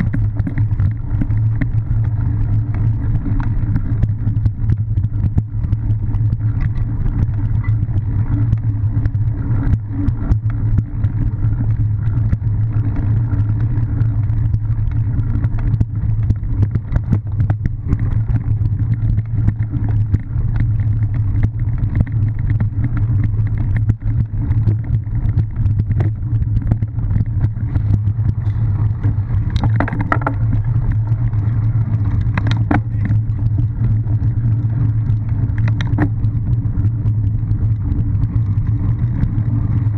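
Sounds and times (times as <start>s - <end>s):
bike rattling over bumpy ground: 0.0s - 39.9s
wind rumble on camera: 0.0s - 39.9s.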